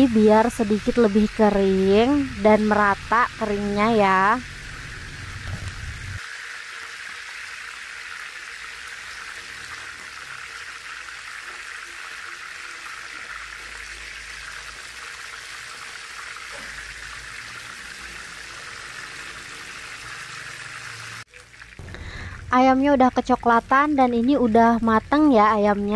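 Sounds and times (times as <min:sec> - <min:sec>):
chicken deep-frying in oil: 0:00.0 - 0:25.9.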